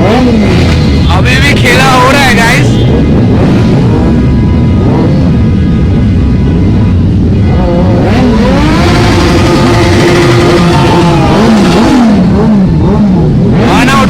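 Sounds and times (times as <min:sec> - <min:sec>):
engines revving: 0:00.0 - 0:14.0.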